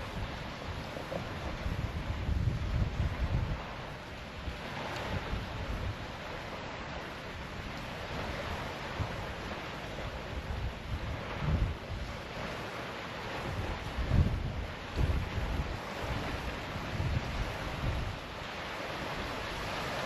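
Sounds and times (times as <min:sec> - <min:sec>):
surf rushing on shore: 0:00.0 - 0:20.0
wind buffeting microphone: 0:00.0 - 0:20.0.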